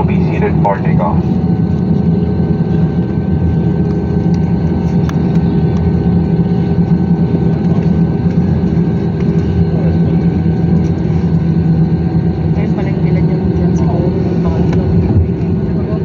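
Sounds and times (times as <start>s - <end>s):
jet engine hum and whine: 0.0s - 16.0s.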